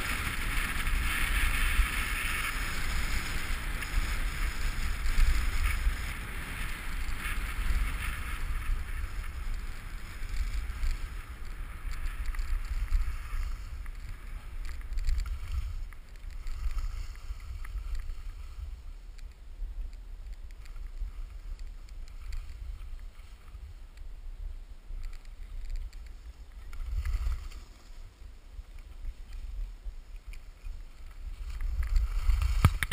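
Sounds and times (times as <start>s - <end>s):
skis sliding on snow: 0.0s - 32.9s
wind buffeting microphone: 0.0s - 32.9s.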